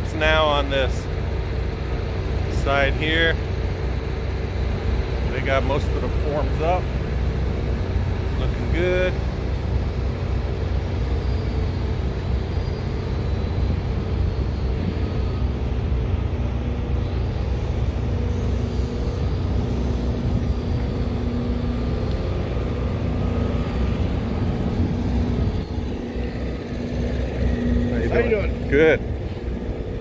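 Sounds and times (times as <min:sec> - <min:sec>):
large vehicle engine rumbling: 0:00.0 - 0:30.0
street noise: 0:00.0 - 0:30.0.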